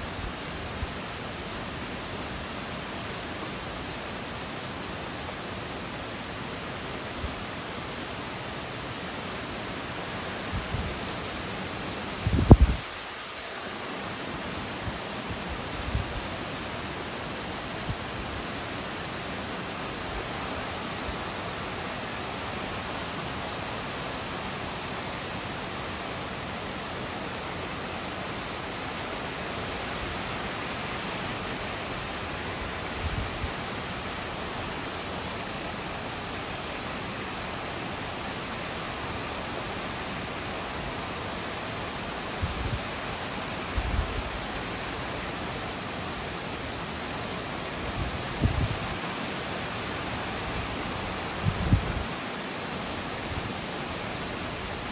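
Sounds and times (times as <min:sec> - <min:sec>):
heavy rain on trees and street: 0:00.0 - 0:54.9.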